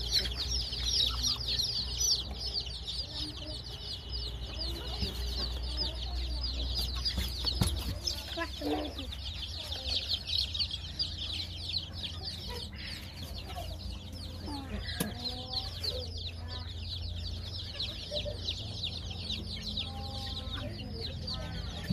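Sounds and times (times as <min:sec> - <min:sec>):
chicks peeping: 0:00.0 - 0:21.9.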